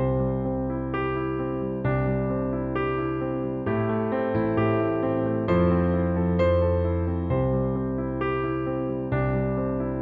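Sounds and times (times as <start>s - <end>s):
soft piano chords: 0.0s - 10.0s.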